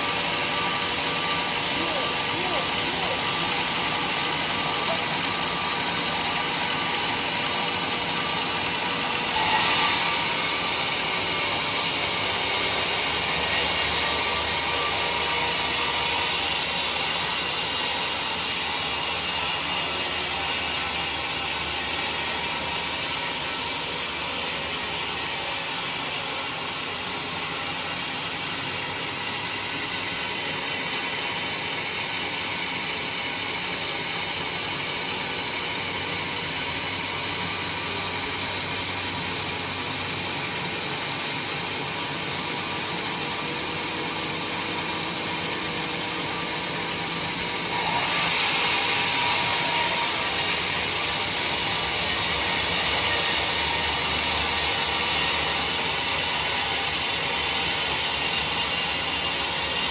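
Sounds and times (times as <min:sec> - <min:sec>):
woodworking machinery running: 0:00.0 - 0:59.9.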